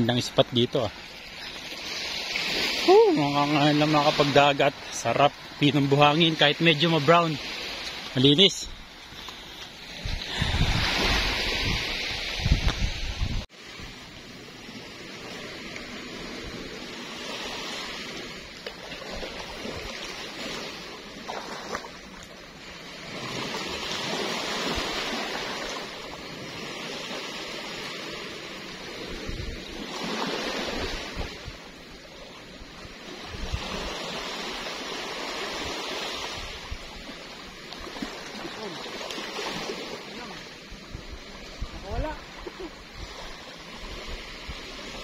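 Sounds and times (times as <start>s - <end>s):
sea waves washing on shore: 0.0s - 45.0s.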